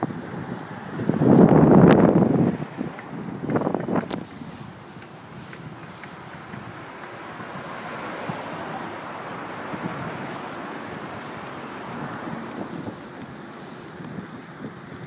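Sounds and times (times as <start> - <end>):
hiss of passing cars: 0.2 - 15.0.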